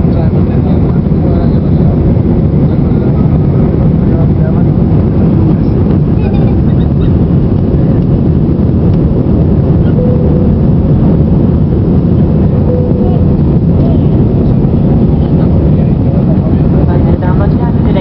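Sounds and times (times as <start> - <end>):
jet engine cabin roar: 0.0 - 18.0
rushing airflow: 0.0 - 18.0.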